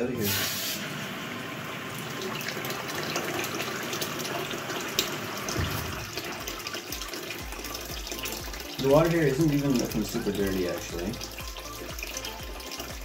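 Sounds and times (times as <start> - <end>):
water pouring into plastic bucket: 0.2 - 13.0.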